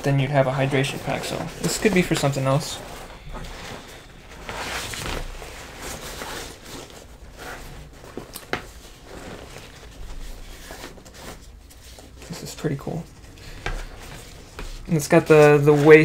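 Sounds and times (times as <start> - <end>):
nylon backpack rustling: 0.2 - 16.0.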